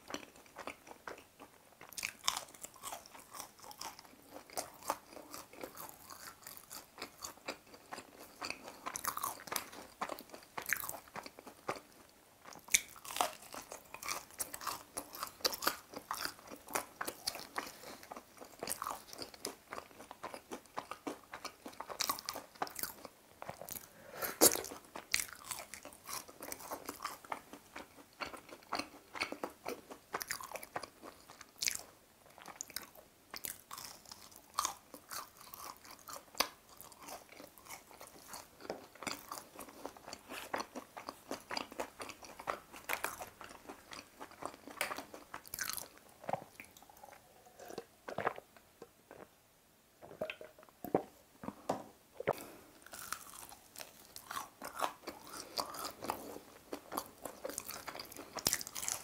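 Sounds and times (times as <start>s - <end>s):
crunching fried squid: 0.1s - 11.9s, 12.5s - 48.4s, 52.4s - 59.0s.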